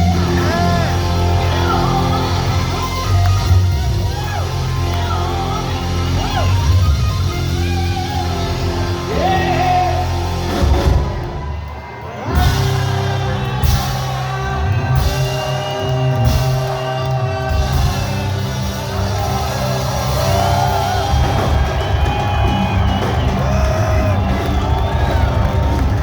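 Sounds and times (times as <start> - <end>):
crowd whooping: 0.0 - 26.0
drum kit: 0.0 - 26.0
rock band playing: 0.0 - 26.0.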